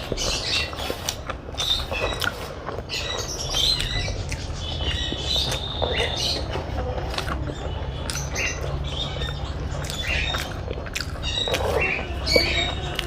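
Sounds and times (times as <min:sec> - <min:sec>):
person chewing with mouth smacks: 0:00.0 - 0:13.0.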